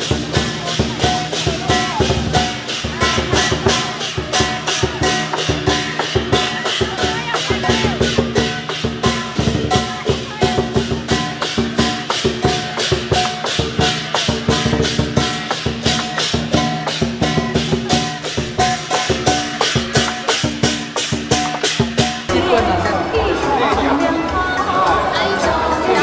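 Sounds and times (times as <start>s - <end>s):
clashing cymbals: 0.0s - 24.1s
drum beating: 0.0s - 26.0s.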